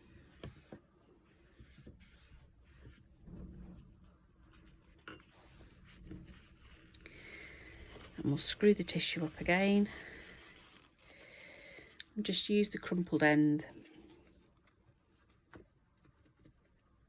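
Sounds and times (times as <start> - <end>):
brush rubbing over paper: 0.0 - 15.5.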